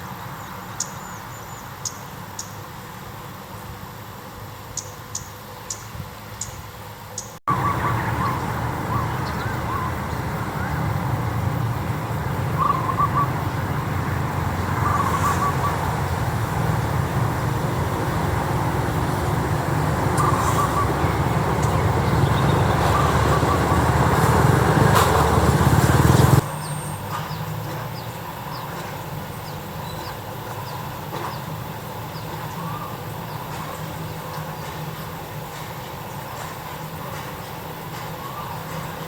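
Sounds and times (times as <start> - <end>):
birds calling: 4.8 - 37.3, 38.0 - 39.0.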